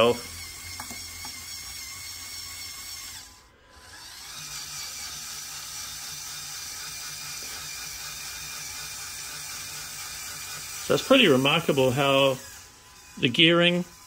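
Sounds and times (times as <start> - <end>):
electric motor geared whine: 0.0 - 14.0.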